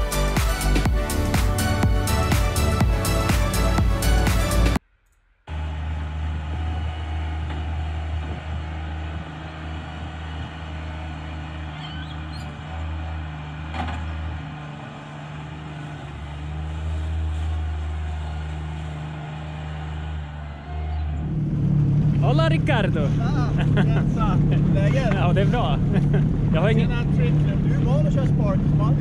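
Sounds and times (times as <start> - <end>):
loader engine running: 5.5 - 29.0.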